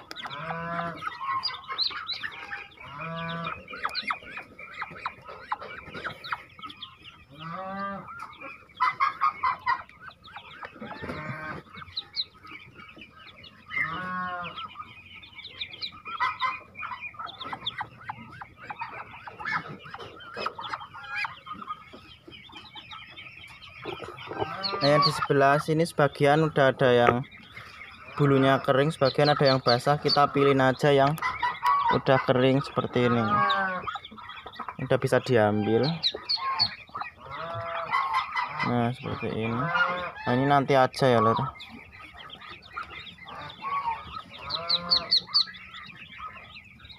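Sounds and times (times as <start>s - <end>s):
adult bird harsh calls: 0.0s - 46.9s
ducklings peeping: 0.0s - 46.9s.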